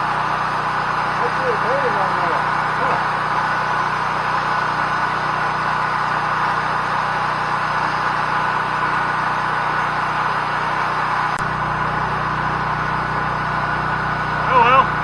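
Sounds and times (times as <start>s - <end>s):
welder generator engine running: 0.0s - 15.0s.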